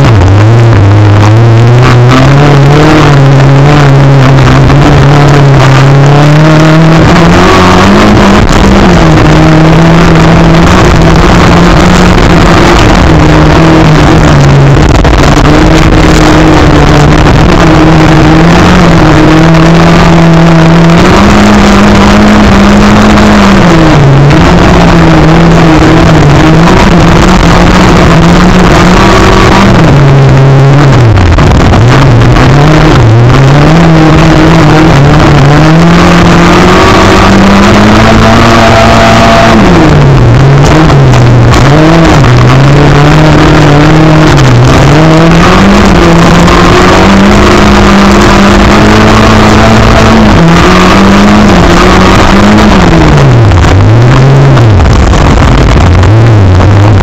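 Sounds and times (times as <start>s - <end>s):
racing car engine revving: 0.0s - 57.0s.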